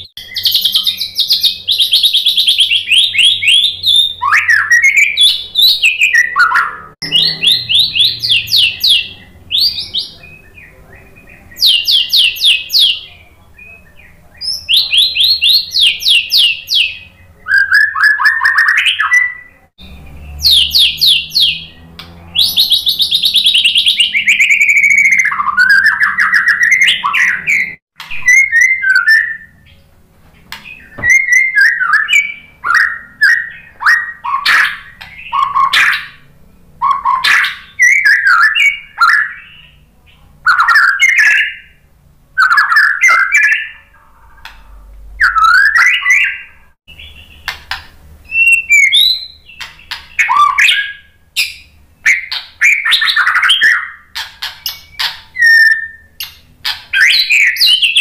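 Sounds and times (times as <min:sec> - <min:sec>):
bird singing trills: 0:00.0 - 0:29.9, 0:30.5 - 0:58.0.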